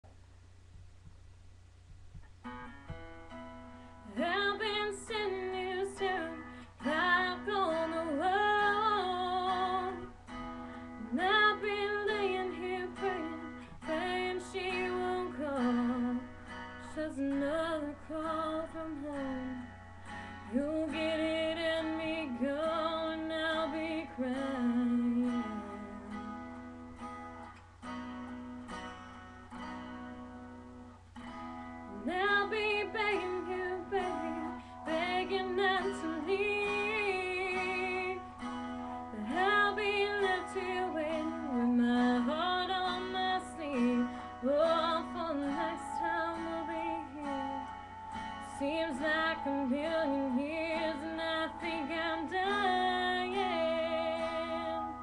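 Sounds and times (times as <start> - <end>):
acoustic guitar: 0.0 - 55.0
woman singing a ballad: 4.0 - 26.7, 31.9 - 55.0.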